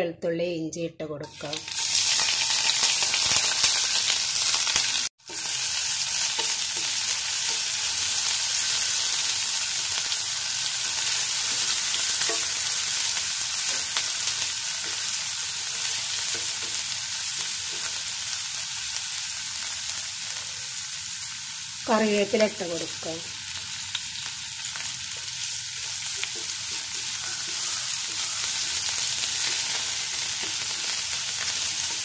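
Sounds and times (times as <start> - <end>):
vegetables sizzling in hot oil: 1.2 - 32.0.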